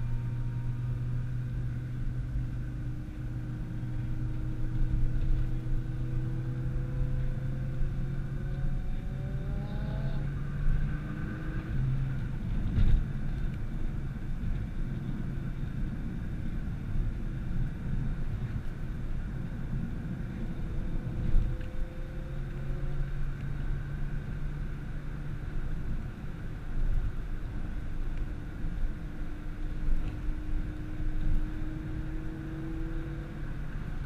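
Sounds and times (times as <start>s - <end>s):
car engine accelerating: 0.0s - 16.2s, 18.2s - 34.0s
road and tyre noise: 0.0s - 34.0s.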